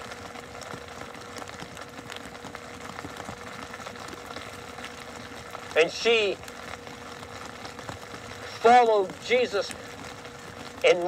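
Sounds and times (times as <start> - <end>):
mechanical hum with faint tone: 0.0 - 11.0.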